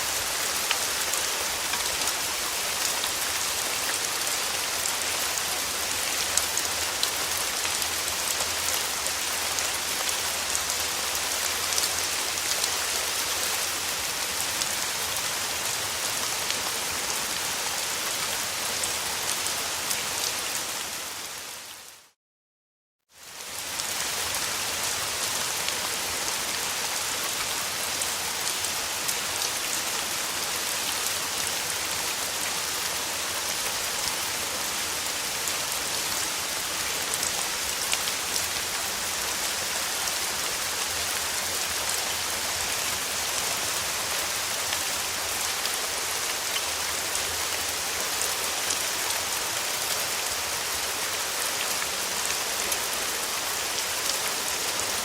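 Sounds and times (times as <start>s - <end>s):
steady rain falling: 0.0s - 22.2s, 23.1s - 55.0s.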